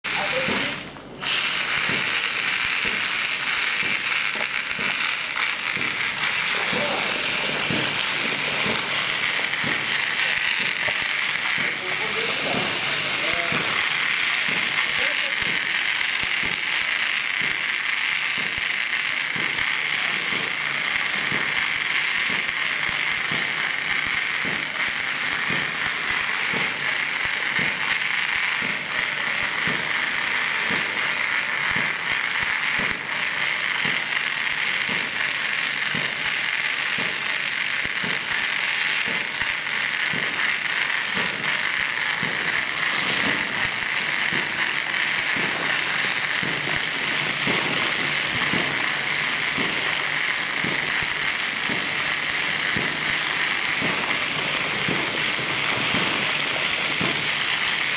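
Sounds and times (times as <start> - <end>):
foam spray jet hiss: 0.0 - 57.9.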